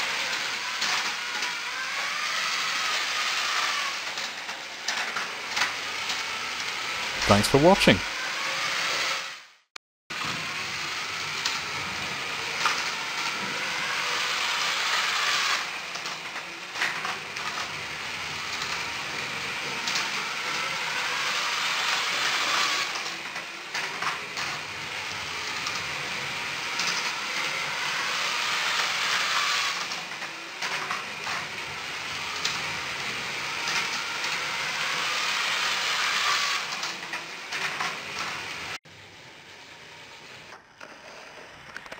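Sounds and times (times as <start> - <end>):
plastic wheels clicking on track: 0.0 - 6.8, 10.2 - 38.8, 40.2 - 41.9
toy train motors whirring: 0.0 - 9.5, 10.2 - 41.9.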